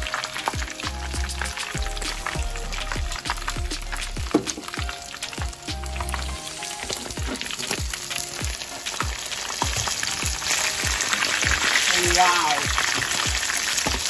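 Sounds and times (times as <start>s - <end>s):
background music with beat: 0.0s - 14.0s
fish deep-frying in oil: 0.0s - 14.0s.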